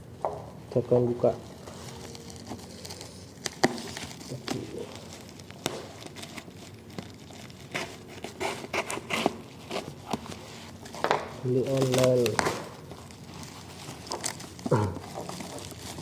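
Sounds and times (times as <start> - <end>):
packaging rustling and crinkling: 0.6 - 16.0
packaging tearing: 1.4 - 16.0.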